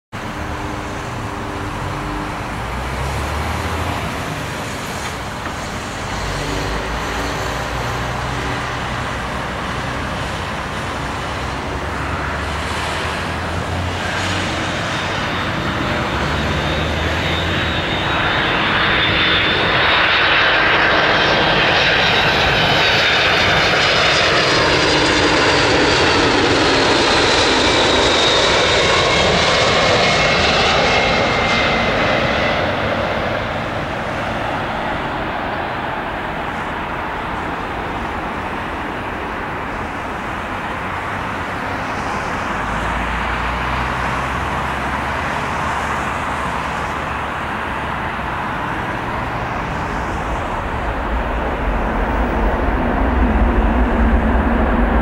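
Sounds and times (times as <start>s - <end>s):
jet engine rumble: 0.1s - 55.0s.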